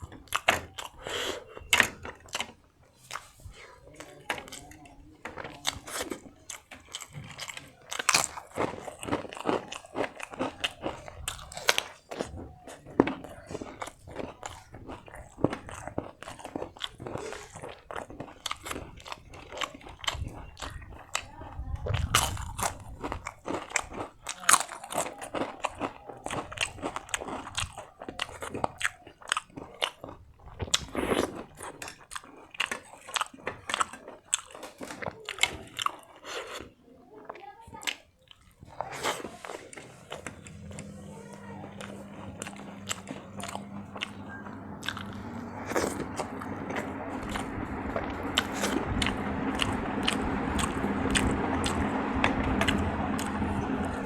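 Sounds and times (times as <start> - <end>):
person chewing crunchy food: 0.0 - 45.1.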